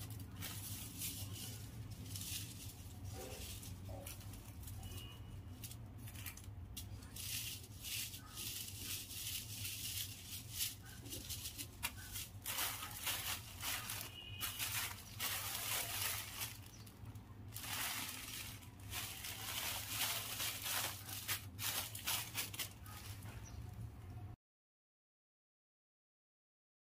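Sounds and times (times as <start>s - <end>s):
paper snappers rattling: 0.0s - 23.4s
plastic packets crinkling: 0.0s - 23.4s.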